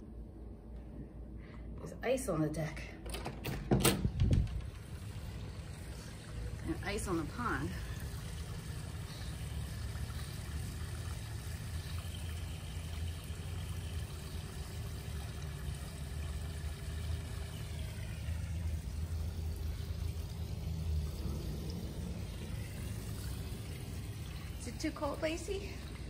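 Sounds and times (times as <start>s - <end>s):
waterfall splashing into pond: 4.8s - 26.0s.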